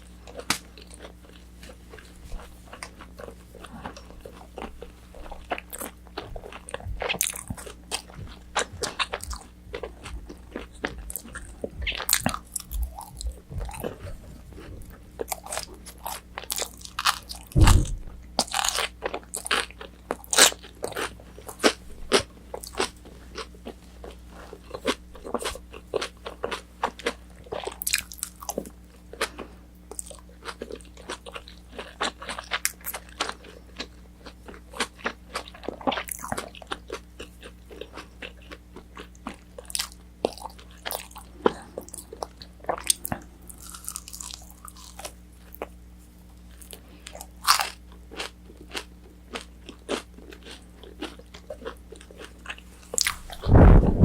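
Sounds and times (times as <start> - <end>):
crunchy fried chicken chewing: 0.0 - 54.0
faint steady hum: 0.0 - 54.0.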